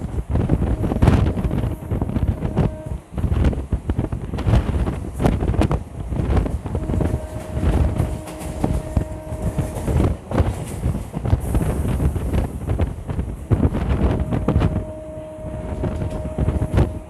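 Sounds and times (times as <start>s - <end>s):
train wheels rumbling on track: 0.0s - 17.0s
wind buffeting microphone: 0.0s - 17.0s.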